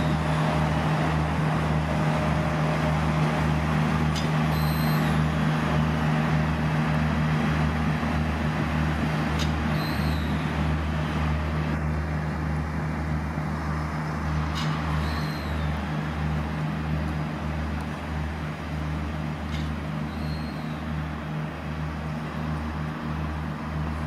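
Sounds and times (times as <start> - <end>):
railcar engine throbbing hum: 0.0 - 24.0.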